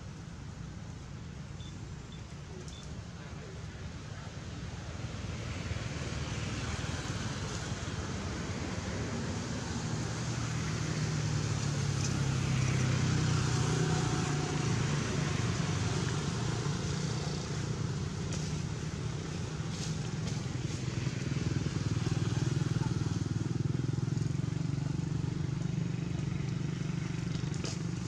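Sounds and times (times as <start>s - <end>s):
passing vehicle engine hum: 3.5s - 28.0s.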